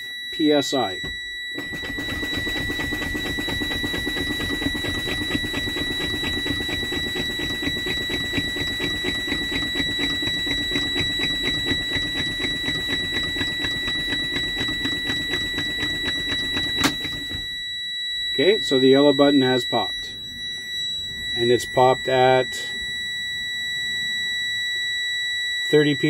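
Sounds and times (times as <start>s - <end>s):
truck air warning buzzer: 0.0s - 26.0s.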